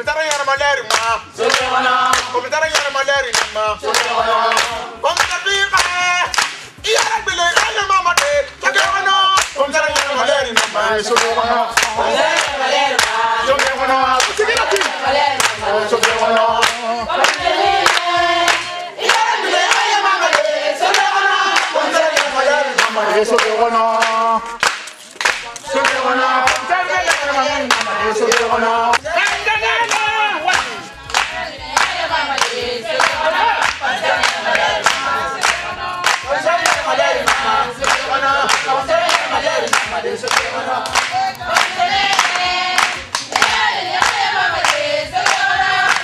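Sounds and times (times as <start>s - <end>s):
group singing together: 0.0s - 46.0s
rhythmic hand-clapping: 0.0s - 46.0s.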